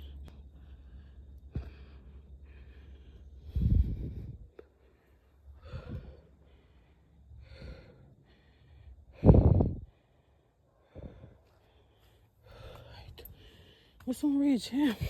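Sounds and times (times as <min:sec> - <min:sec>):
person breathing hard: 0:00.0 - 0:14.0.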